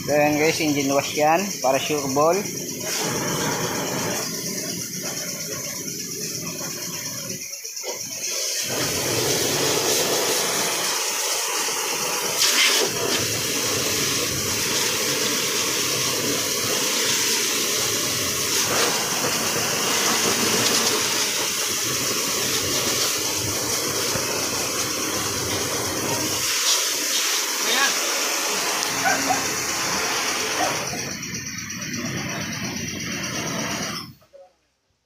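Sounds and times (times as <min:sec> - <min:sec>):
pressure washer spraying metal: 0:00.0 - 0:34.2.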